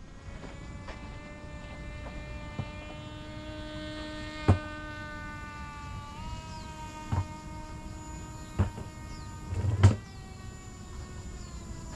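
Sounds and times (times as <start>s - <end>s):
quadcopter motors whining: 0.0s - 11.9s.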